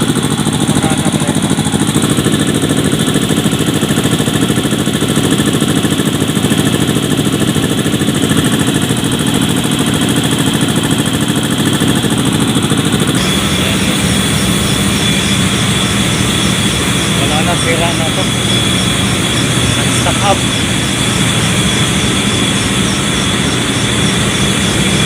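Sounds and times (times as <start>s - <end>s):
air compressor running: 0.0s - 25.0s
steady high whine: 0.0s - 25.0s.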